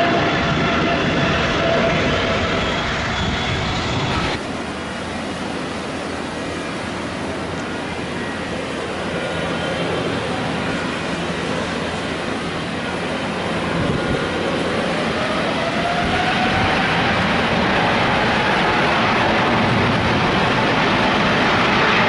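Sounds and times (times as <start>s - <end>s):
jet engine whine: 0.0s - 22.0s
jet engines rumbling: 0.0s - 22.0s.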